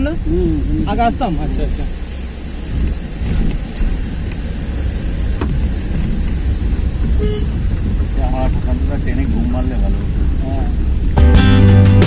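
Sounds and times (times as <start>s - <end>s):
roar of rushing stream water: 0.0s - 11.2s.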